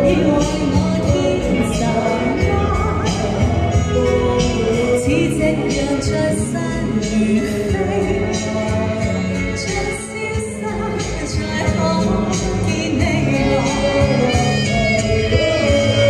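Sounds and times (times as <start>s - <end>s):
backing track: 0.0s - 16.0s
woman singing pop song: 0.0s - 16.0s.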